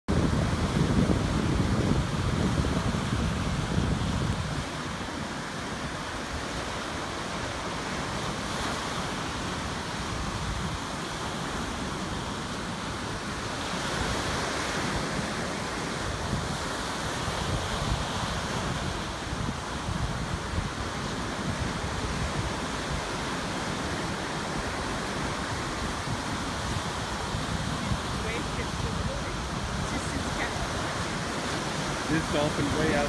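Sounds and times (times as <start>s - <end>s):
ocean surf breaking: 0.1s - 33.0s
wind buffeting microphone: 0.1s - 33.0s.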